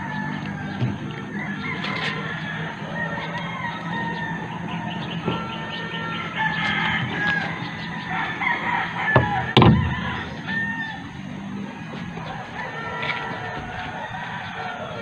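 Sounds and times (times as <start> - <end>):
roosters crowing: 0.0 - 15.0.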